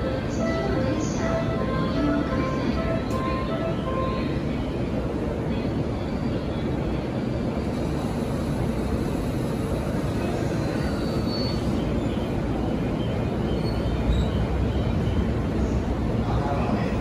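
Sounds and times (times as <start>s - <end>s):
train motors and wheels rumbling: 0.0s - 17.0s.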